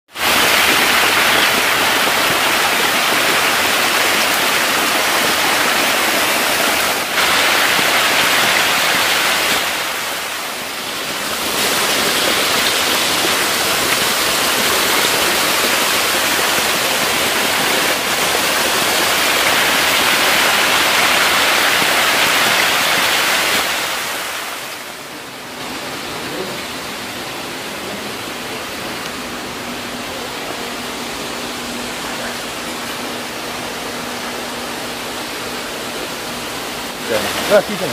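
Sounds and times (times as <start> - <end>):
fish splashing and churning water: 0.1 - 37.9
steady hiss: 0.2 - 37.9.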